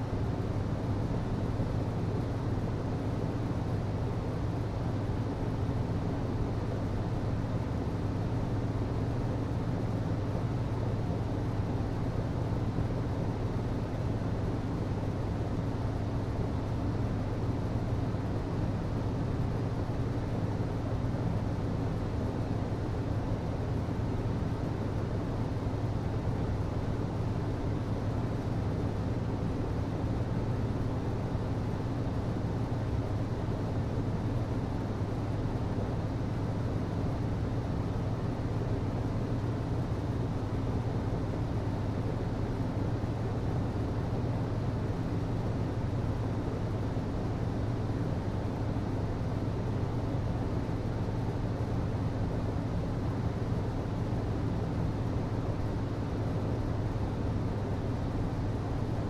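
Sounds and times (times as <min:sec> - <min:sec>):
hvac system humming: 0:00.0 - 0:59.0.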